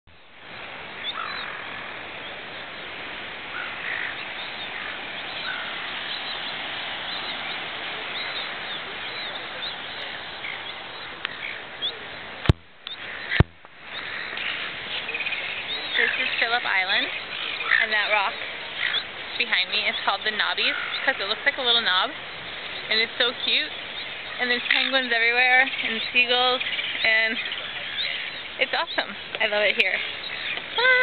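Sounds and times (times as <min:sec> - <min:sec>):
sea noise: 0:00.0 - 0:31.0
wind: 0:00.0 - 0:31.0
seagulls calling: 0:01.0 - 0:01.9, 0:03.4 - 0:31.0.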